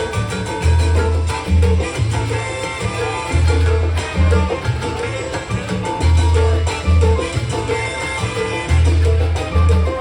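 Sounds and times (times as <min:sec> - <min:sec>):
salsa music: 0:00.0 - 0:10.0.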